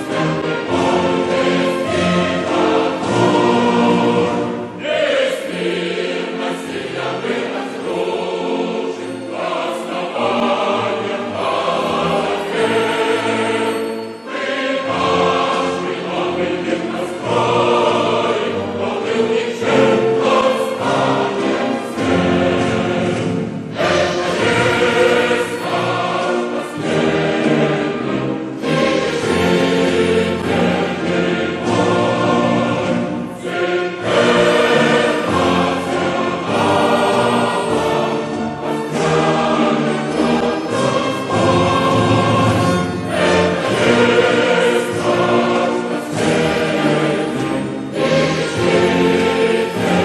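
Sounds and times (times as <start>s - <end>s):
choir singing sustained chords: 0.0s - 50.0s.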